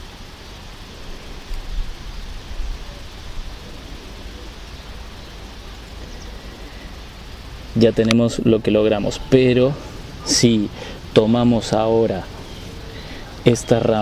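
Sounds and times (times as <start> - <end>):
low rumble: 0.0 - 13.6
outdoor hiss: 0.0 - 14.0.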